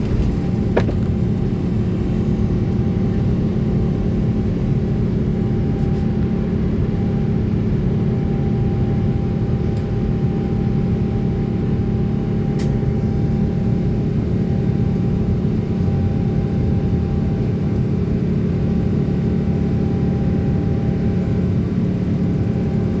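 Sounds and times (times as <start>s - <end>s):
jet engines drone in cabin: 0.0s - 23.0s.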